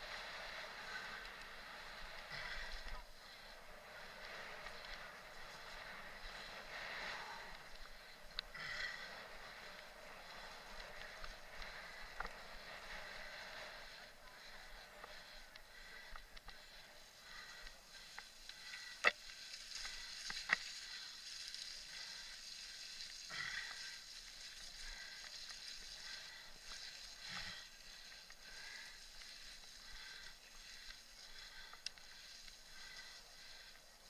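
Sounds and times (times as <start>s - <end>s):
bike tyres hissing on trail: 0.0s - 34.0s.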